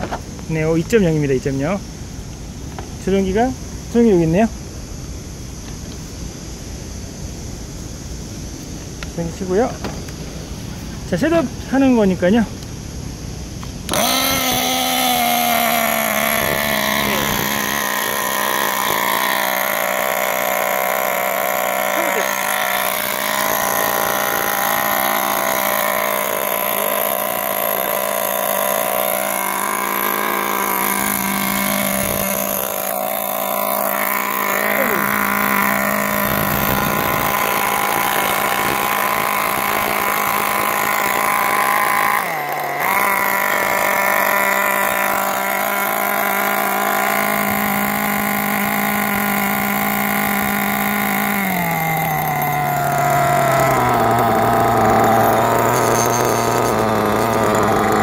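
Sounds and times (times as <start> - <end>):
nitro engine idling: 8.8 - 58.0.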